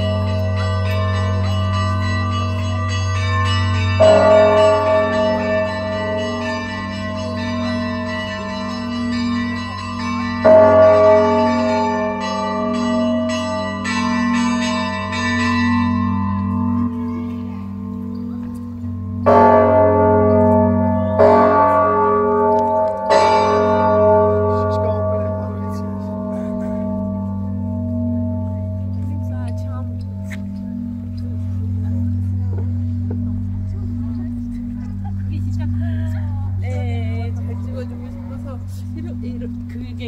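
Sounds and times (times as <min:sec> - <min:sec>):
church bells ringing: 0:00.0 - 0:40.0
deep hum of large bell: 0:00.0 - 0:40.0.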